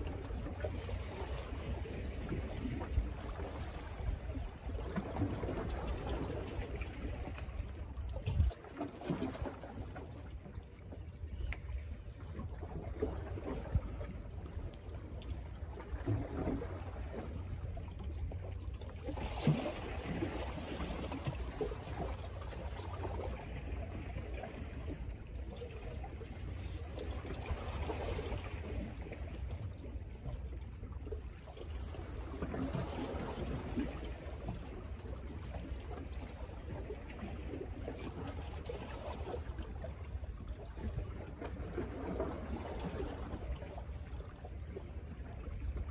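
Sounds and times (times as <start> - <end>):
waves lapping against rocks: 0.0 - 45.9.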